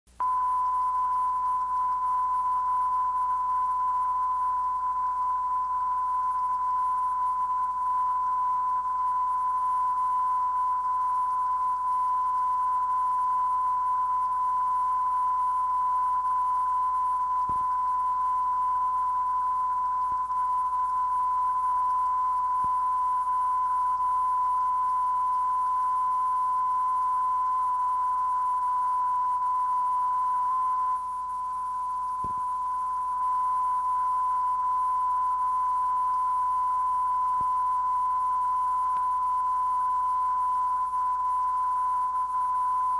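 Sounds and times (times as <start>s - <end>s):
faint tape hiss: 0.1s - 42.9s
long steady beep: 0.1s - 42.9s.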